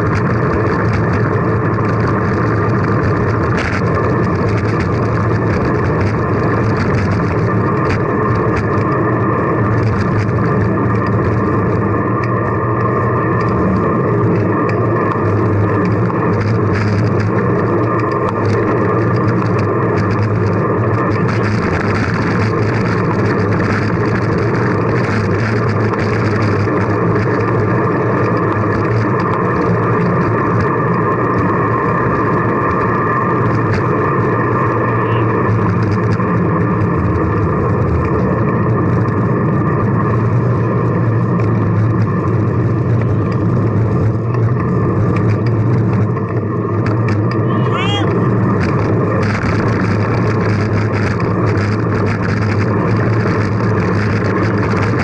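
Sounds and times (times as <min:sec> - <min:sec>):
road rumble: 0:00.0 - 0:55.0
wind rush on microphone: 0:00.0 - 0:55.0.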